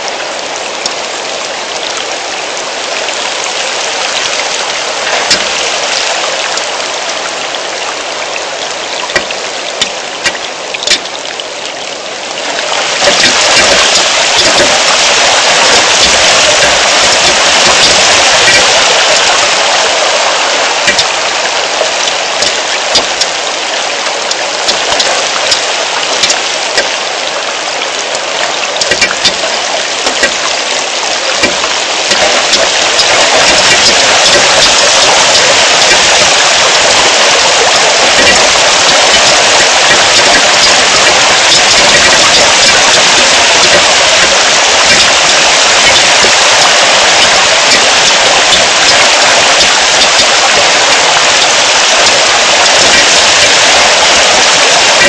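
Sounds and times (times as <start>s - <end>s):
heavy rain hissing: 0.0s - 55.0s
raindrop hits close by: 0.0s - 55.0s.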